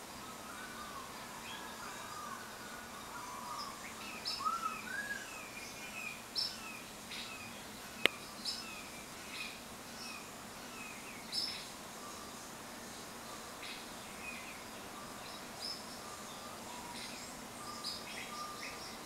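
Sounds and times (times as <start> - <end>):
faint hiss: 0.0 - 19.0
small birds chirping and whistling: 0.1 - 19.0.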